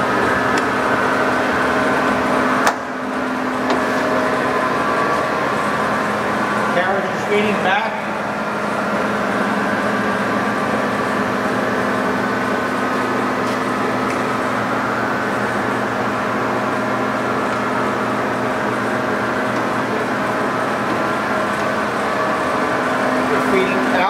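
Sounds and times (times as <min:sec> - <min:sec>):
lathe geared drive humming: 0:00.0 - 0:24.0
steady whining tones: 0:00.0 - 0:24.0.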